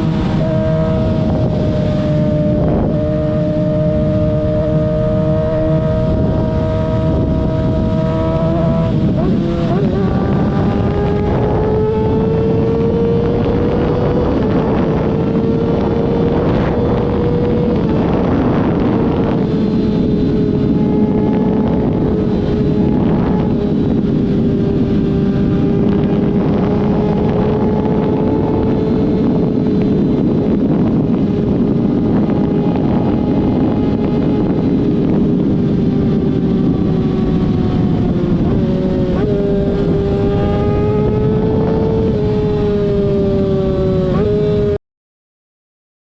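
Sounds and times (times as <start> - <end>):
vehicle engine at high revs: 0.0 - 44.8
wind noise on microphone: 0.0 - 44.8.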